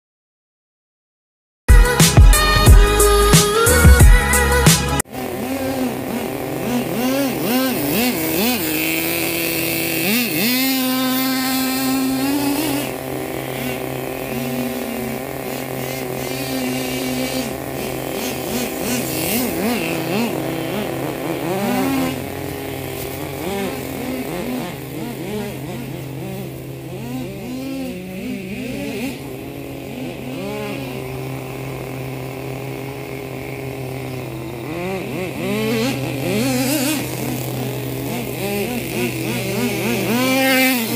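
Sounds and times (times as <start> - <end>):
small nitro engine revving: 1.7 - 40.9.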